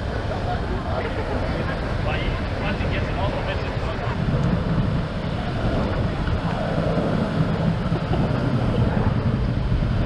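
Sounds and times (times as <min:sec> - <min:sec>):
wind buffeting the microphone: 0:00.0 - 0:10.0.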